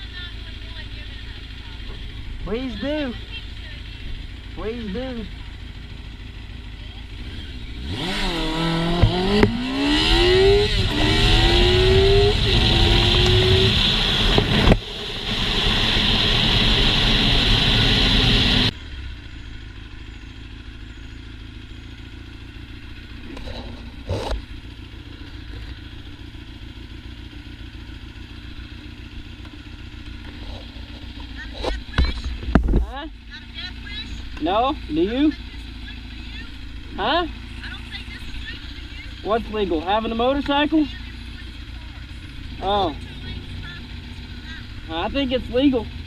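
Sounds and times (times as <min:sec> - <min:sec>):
motorcycle engine accelerating: 0:00.0 - 0:46.0
steady engine hum: 0:00.0 - 0:46.0.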